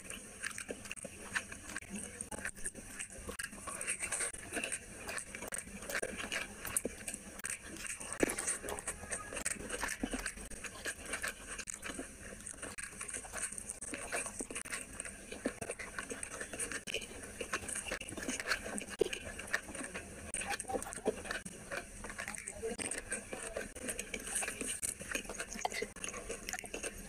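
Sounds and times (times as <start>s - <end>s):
wet chewing and mouth clicks: 0.0s - 27.0s.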